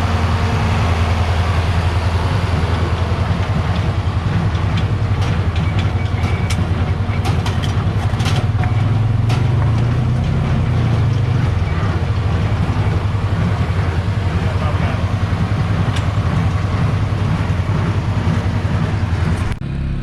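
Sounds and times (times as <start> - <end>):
diesel tractor engine running: 0.0 - 20.0
sharp clicks and rattles: 0.6 - 19.6.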